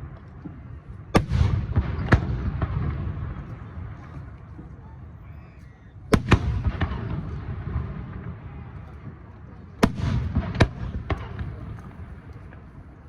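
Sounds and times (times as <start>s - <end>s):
fireworks bangs with echo: 0.0s - 5.3s, 6.0s - 13.0s.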